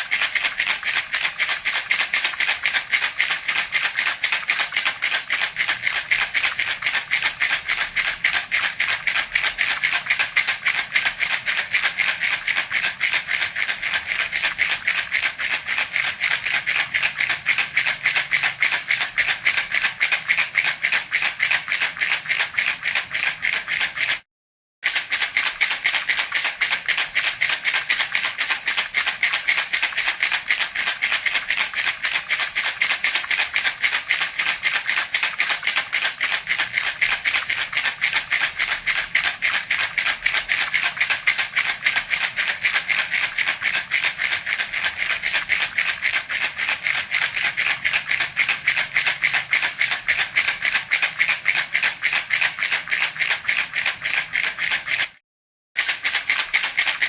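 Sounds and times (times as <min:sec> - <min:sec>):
baby rattle shaken: 0:00.0 - 0:24.2, 0:24.8 - 0:55.2, 0:55.8 - 0:57.0.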